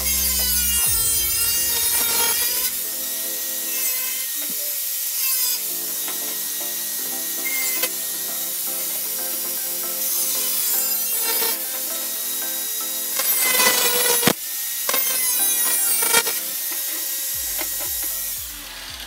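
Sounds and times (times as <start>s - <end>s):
angle grinder cutting metal: 0.0s - 19.0s.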